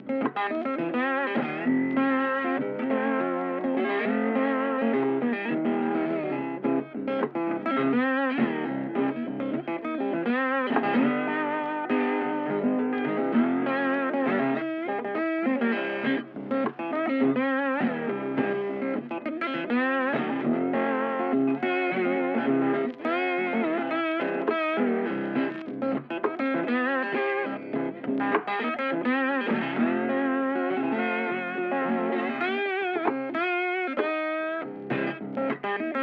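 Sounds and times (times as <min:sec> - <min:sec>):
electric guitar music: 0:00.0 - 0:36.0.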